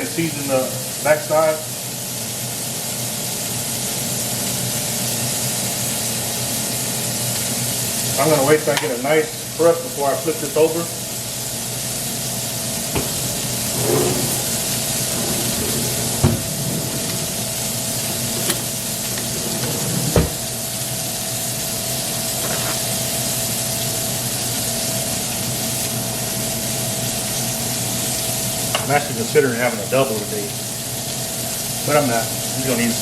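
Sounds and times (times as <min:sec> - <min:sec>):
burger patties sizzling in skillet: 0:00.0 - 0:33.0.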